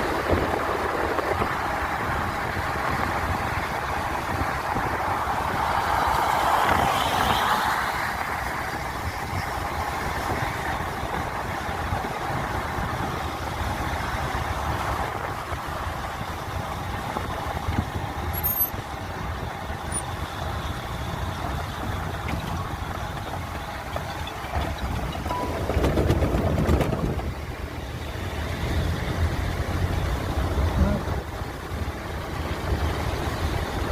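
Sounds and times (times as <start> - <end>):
moving vehicle rumble and hiss: 0.0 - 33.9.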